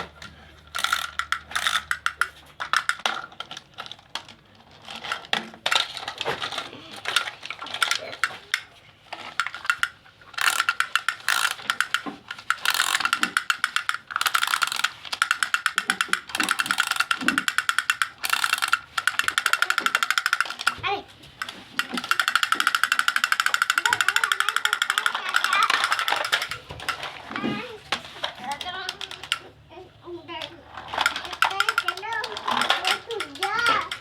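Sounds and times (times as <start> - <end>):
toy gear mechanism clicking: 0.0 - 34.0.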